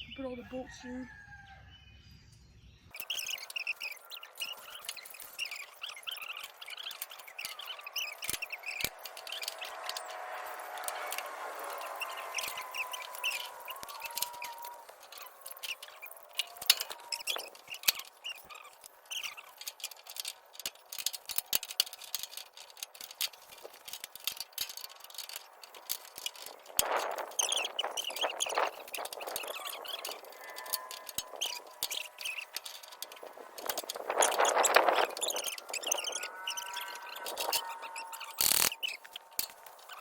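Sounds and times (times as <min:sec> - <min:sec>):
metal rattling: 0:02.9 - 0:40.0
short high squeaks: 0:02.9 - 0:40.0
hand tools clinking on metal: 0:03.0 - 0:40.0.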